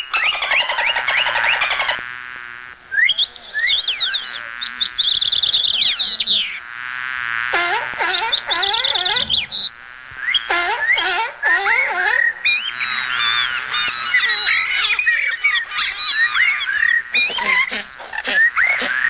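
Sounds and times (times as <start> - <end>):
high animal chirps: 0.0 - 2.0, 3.0 - 6.6, 7.5 - 19.0
rising and falling animal calls: 0.0 - 2.1, 2.8 - 6.6, 7.5 - 19.0
high buzzing trill: 0.0 - 19.0.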